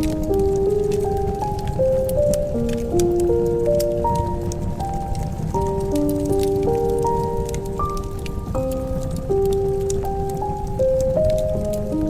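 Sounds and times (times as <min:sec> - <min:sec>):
fireplace fire crackling: 0:00.0 - 0:12.0
gentle instrumental melody: 0:00.0 - 0:12.0.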